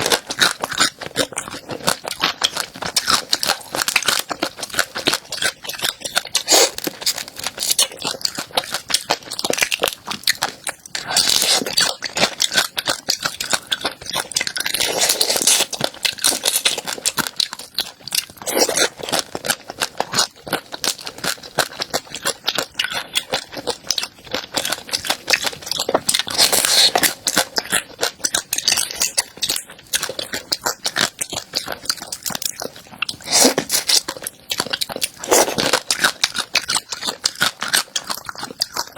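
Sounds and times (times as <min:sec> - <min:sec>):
chewing crisp food: 0:00.0 - 0:38.9
crunchy bites: 0:00.0 - 0:38.9.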